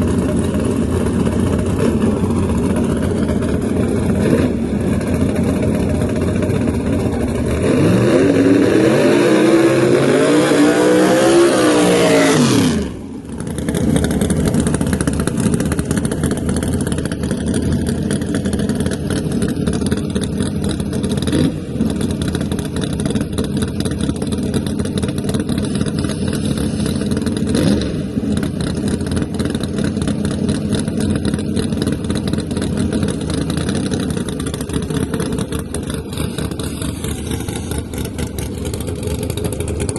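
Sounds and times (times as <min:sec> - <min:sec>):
drag car engine at high revs: 0:00.0 - 0:39.9
race engines rumbling and revving: 0:00.0 - 0:39.9.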